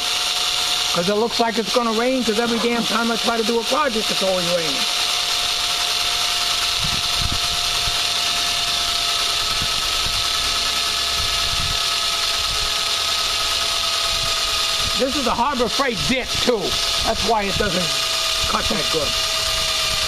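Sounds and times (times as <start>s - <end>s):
cordless drill grinding into metal: 0.0s - 20.0s.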